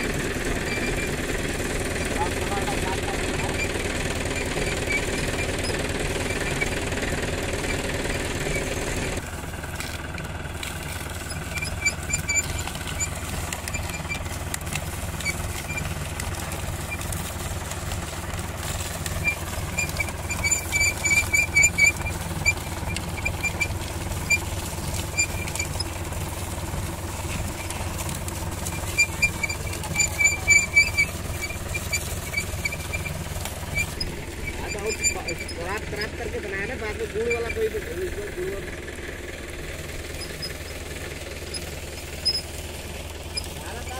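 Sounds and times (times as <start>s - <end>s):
high squeaks from cane crusher: 0.0s - 43.9s
tractor engine running: 0.0s - 43.9s.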